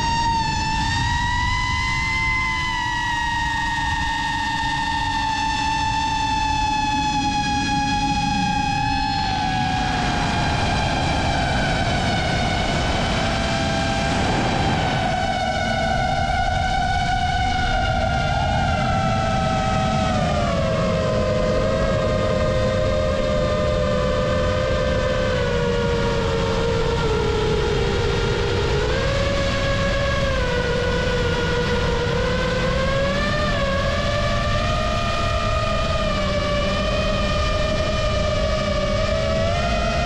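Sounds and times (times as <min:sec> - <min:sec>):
low rush of wind: 0:00.0 - 0:40.0
quadcopter motors whining: 0:00.0 - 0:40.0.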